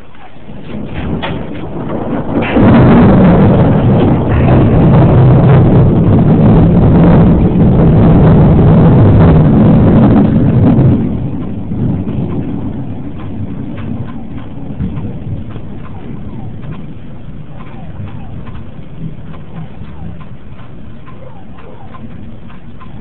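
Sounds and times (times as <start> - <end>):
rolling thunder: 0.0 - 23.0
storm noise: 0.0 - 23.0.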